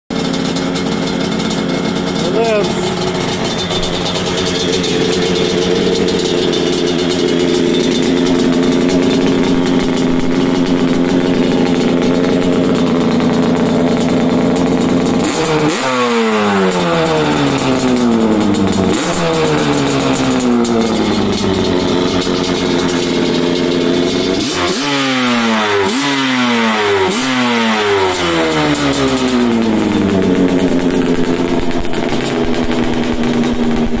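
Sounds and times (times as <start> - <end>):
two-stroke engine idling and revving: 0.0 - 34.0.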